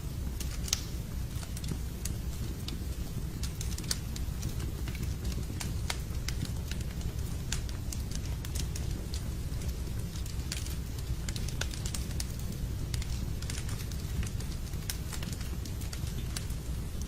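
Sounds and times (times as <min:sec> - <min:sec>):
logs crackling in fireplace: 0:00.0 - 0:17.0.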